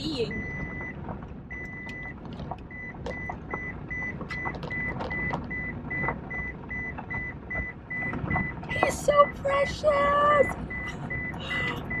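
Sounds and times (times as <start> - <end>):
car road noise rumbling: 0.0 - 12.0.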